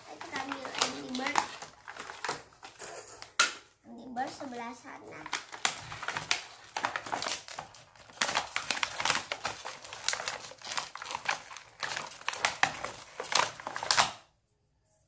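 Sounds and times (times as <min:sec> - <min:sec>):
plastic crinkling and clicking: 0:00.0 - 0:14.3.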